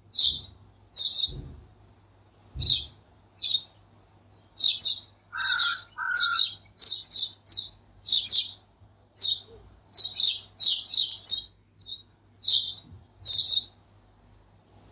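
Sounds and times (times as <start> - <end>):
lower bird calls: 0.0 - 1.6, 2.6 - 3.8, 4.4 - 13.8
small birds chirping: 0.0 - 14.9.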